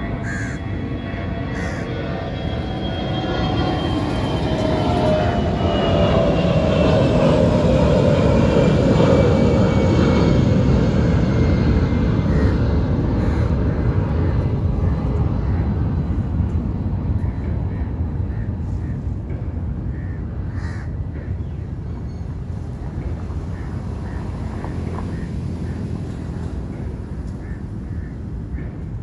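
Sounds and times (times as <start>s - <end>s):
aircraft engine rumble passing overhead: 0.0s - 29.0s.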